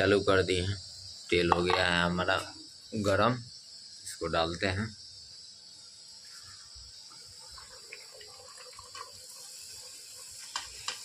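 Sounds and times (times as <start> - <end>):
frying in hot oil sizzle: 0.0 - 11.0.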